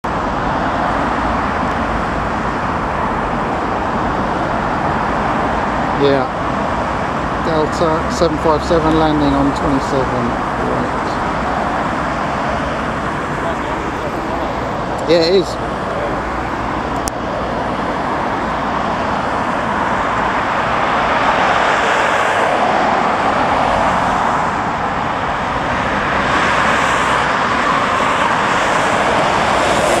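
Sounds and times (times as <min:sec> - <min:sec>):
jet engine noise: 0:00.1 - 0:30.0.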